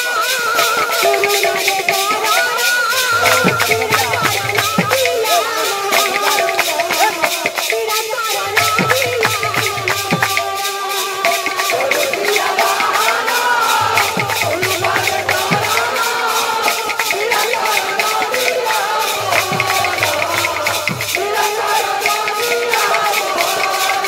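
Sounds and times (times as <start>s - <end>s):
hand cymbals clashing: 0.0s - 24.0s.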